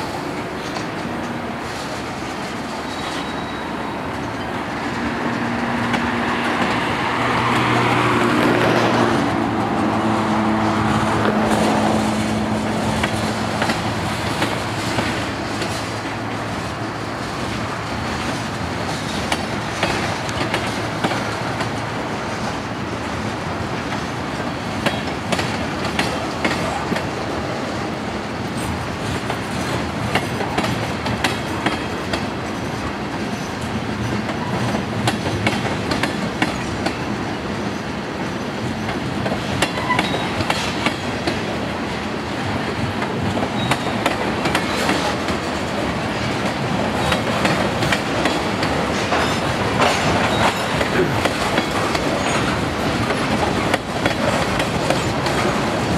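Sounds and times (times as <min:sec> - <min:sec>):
freight train wheels rumbling: 0:00.0 - 0:55.9
wheels clacking over rail joints: 0:00.0 - 0:55.9.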